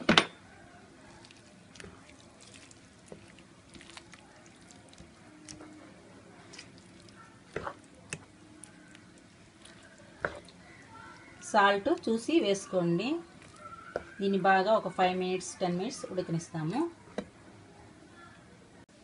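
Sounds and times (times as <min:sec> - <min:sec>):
spatula stirring wet mixture: 0:00.6 - 0:16.3.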